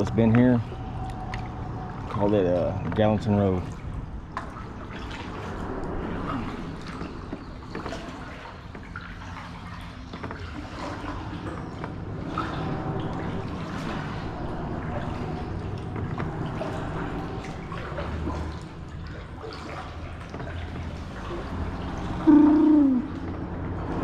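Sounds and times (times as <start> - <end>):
water dripping from paddle: 0.0 - 24.0.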